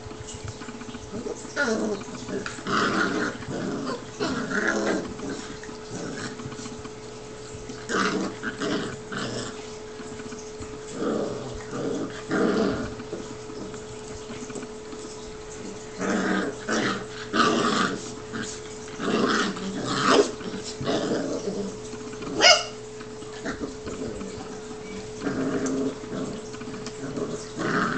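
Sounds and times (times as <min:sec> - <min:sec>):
puppies growling: 0:00.0 - 0:27.9.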